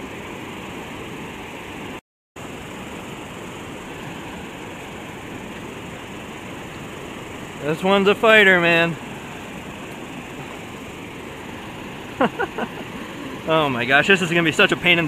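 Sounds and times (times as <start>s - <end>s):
river water over spillway: 0.0s - 15.0s.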